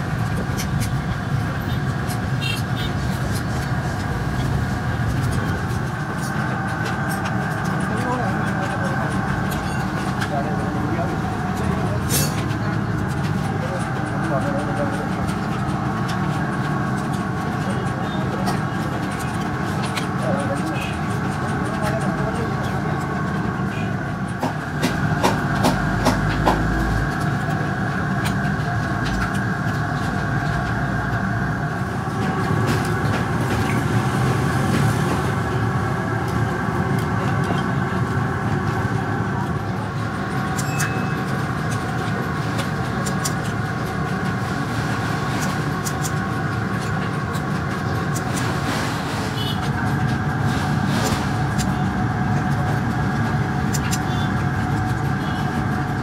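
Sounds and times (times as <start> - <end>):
mechanical drone and hum: 0.0 - 56.0.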